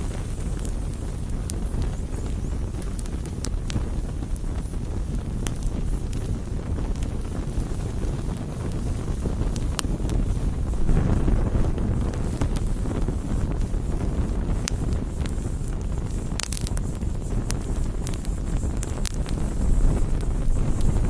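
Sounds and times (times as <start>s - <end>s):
campfire burning: 0.0s - 21.0s
wood crackling pops: 0.1s - 21.0s.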